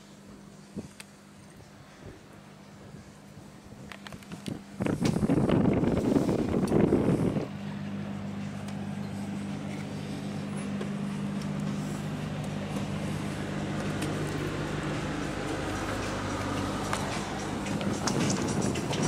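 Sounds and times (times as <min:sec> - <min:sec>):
diesel engines humming: 0:00.0 - 0:19.0.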